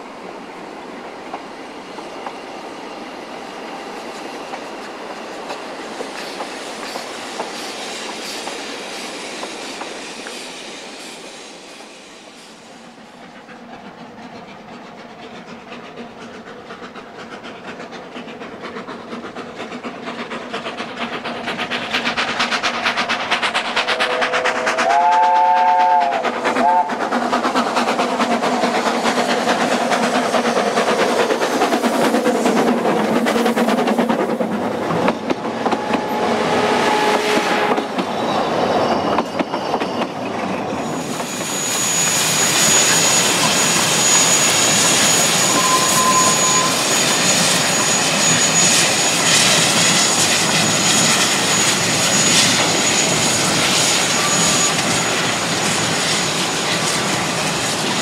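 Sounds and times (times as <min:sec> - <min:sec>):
steam locomotive working: 0:00.0 - 0:58.0
rushing hiss with high tone: 0:02.4 - 0:34.6, 0:40.7 - 0:58.0.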